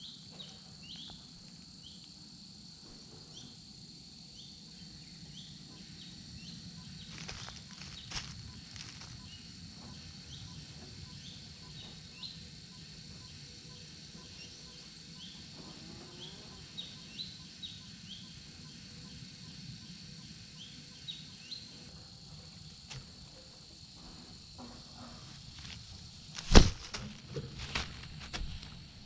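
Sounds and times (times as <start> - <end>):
high insect drone: 0.0 - 29.0
low outdoor background noise: 0.0 - 29.0.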